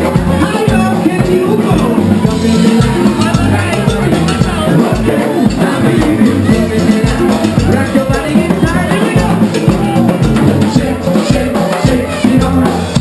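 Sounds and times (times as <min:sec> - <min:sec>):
drums beating: 0:00.0 - 0:13.0
electric guitar: 0:00.0 - 0:13.0
live band playing: 0:00.0 - 0:13.0.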